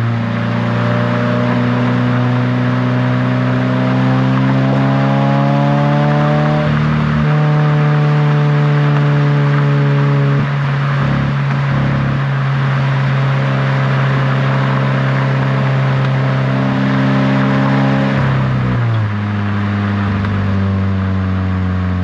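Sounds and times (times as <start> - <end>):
car engine and exhaust driving: 0.0 - 22.0.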